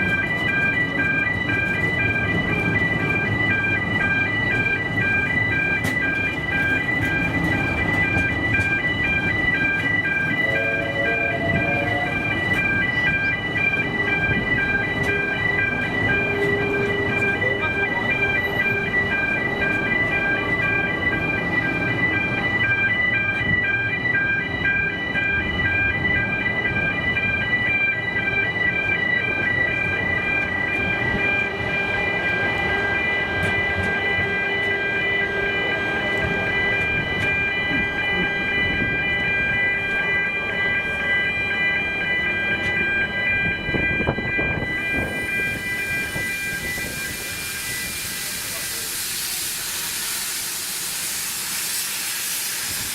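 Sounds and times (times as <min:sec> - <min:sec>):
pulsing electronic alarm tone: 0:00.0 - 0:51.0
steam train rumbling: 0:00.0 - 0:52.9.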